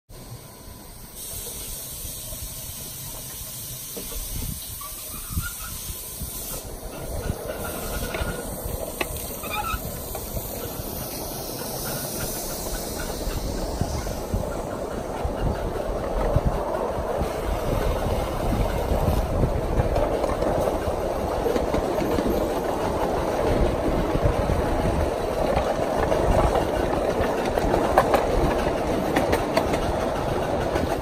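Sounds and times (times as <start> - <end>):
steam locomotive hissing: 0.1 - 31.0
wheels rumbling over rails: 1.3 - 31.0.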